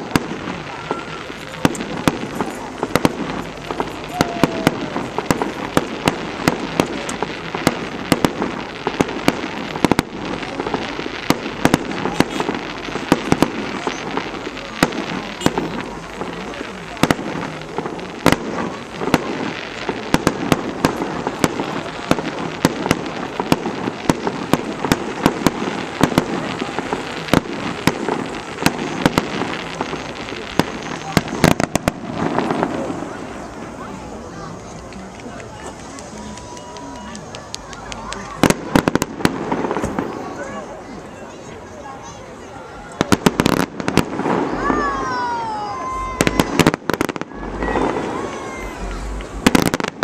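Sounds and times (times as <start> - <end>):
fireworks bangs and cracks: 0.0 - 50.0
voices in background: 0.0 - 50.0.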